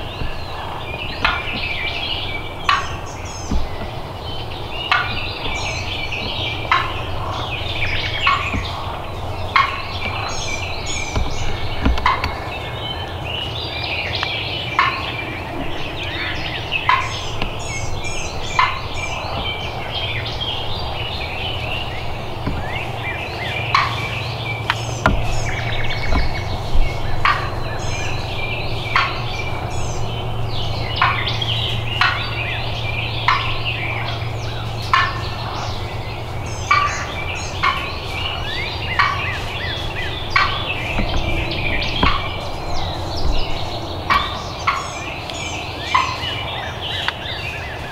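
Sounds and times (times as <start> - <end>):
turkeys gobbling: 0.0 - 47.8.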